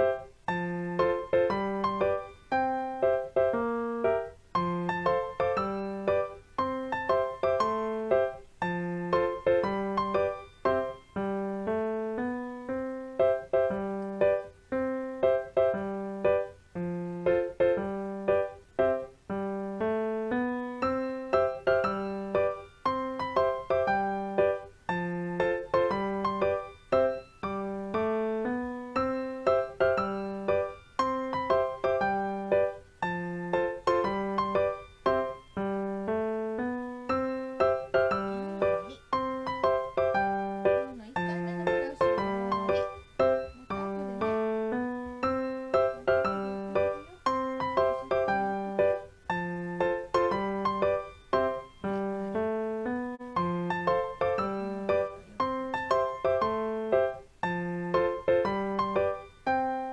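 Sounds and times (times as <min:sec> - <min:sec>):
gentle piano music: 0:00.0 - 0:59.9.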